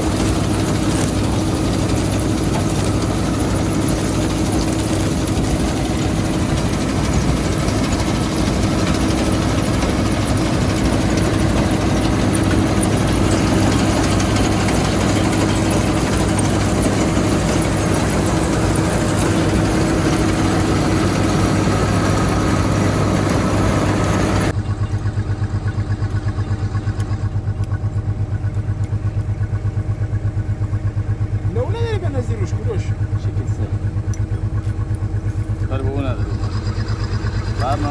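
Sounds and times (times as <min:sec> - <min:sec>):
engine chugging: 0:00.0 - 0:37.9
farm machinery running: 0:00.0 - 0:37.9.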